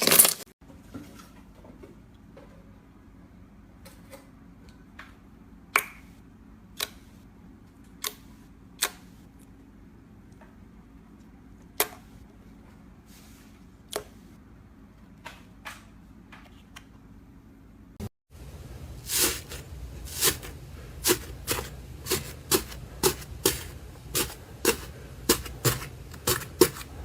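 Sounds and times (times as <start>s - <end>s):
faint steady hum: 1.4s - 27.0s.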